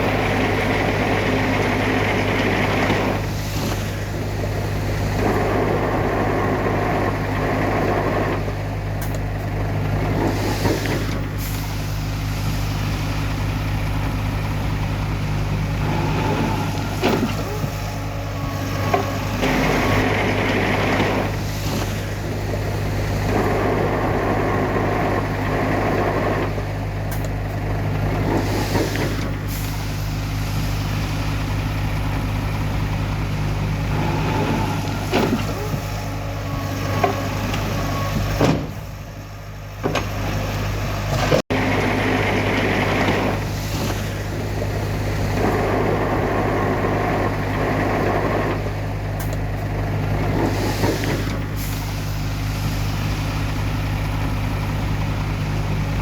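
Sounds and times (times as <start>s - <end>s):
heavy diesel machinery engine drone: 0.0s - 56.0s.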